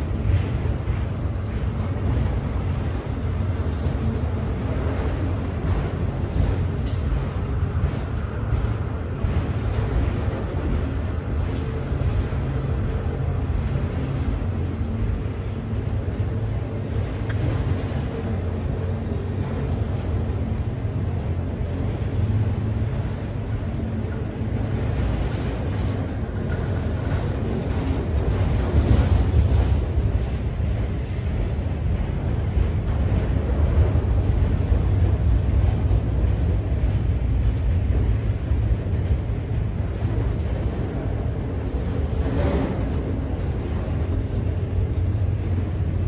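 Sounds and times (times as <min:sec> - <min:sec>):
freight train rumbling on rails: 0:00.0 - 0:46.0.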